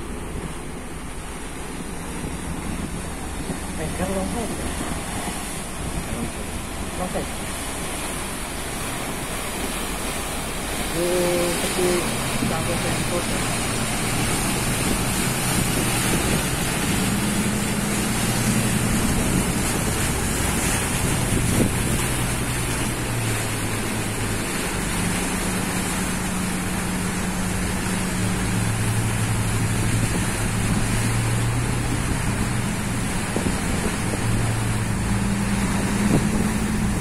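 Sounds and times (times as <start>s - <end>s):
wind buffeting microphone: 0.0s - 11.0s, 11.7s - 37.0s
boat engines humming: 0.0s - 37.0s
rush of boat wake: 0.0s - 37.0s.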